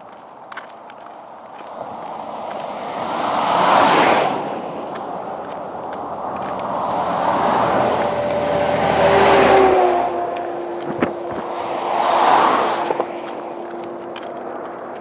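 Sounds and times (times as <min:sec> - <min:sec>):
vehicles passing on highway: 0:00.0 - 0:15.0.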